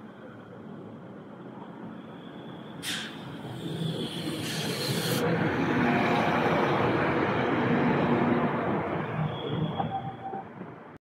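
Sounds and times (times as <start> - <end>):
train engine passing: 0.0 - 10.9.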